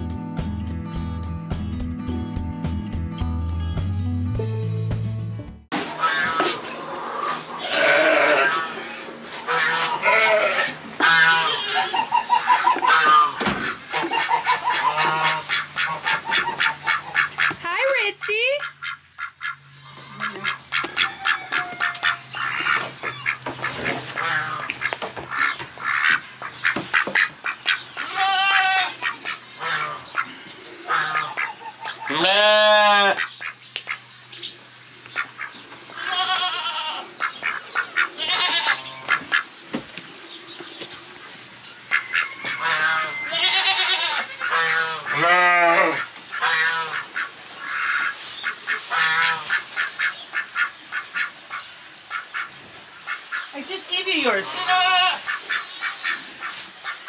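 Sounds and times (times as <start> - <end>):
ducks quacking: 5.7 - 34.1, 35.1 - 39.6, 41.8 - 57.0
geese honking: 5.8 - 34.1, 35.1 - 39.6, 41.8 - 57.0.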